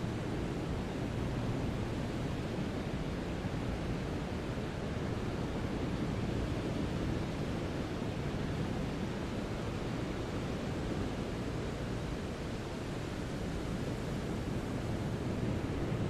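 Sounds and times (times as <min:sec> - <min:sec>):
brown noise hiss: 0:00.0 - 0:16.0.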